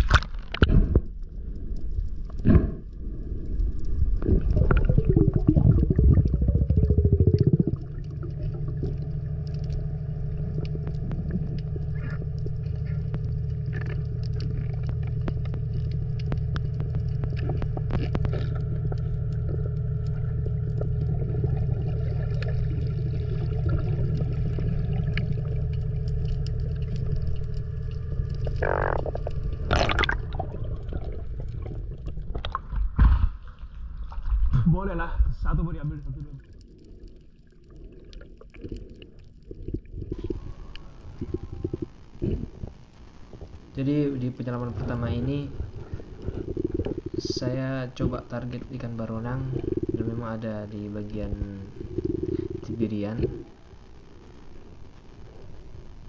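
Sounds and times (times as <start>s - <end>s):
underwater ship machinery hum: 0.0s - 56.0s.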